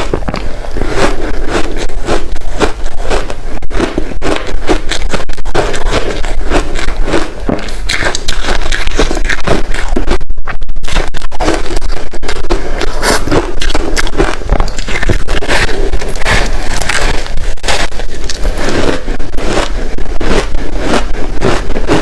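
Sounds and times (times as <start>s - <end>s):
chewing ice chunks: 0.0s - 10.2s, 10.8s - 22.0s.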